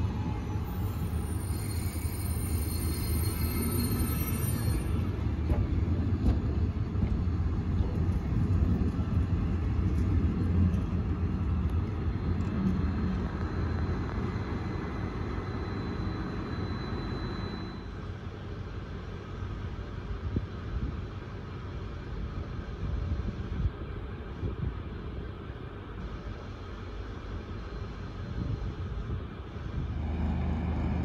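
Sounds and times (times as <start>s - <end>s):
train rumbling on tracks: 0.0s - 31.0s.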